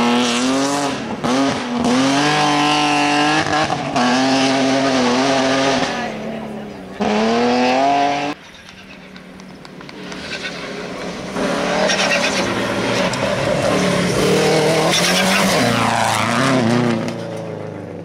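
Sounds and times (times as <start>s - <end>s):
rally car engine revving: 0.0s - 8.8s, 9.4s - 18.0s.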